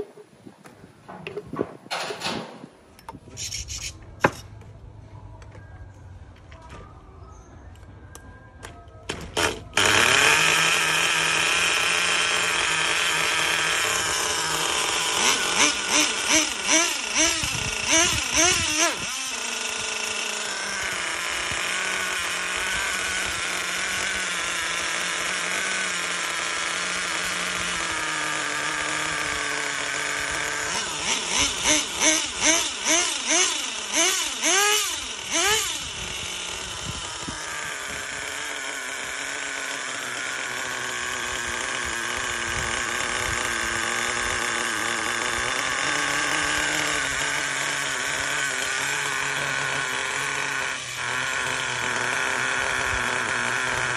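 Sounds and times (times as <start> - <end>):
small engine idling and revving: 9.0 - 53.9.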